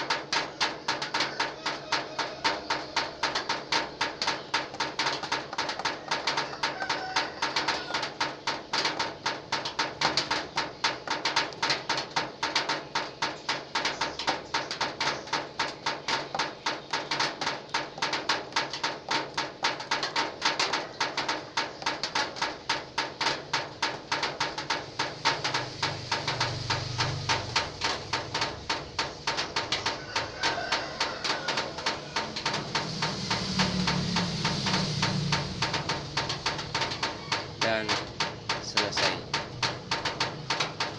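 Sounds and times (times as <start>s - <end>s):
raindrops tapping on metal roof: 0.0s - 40.9s.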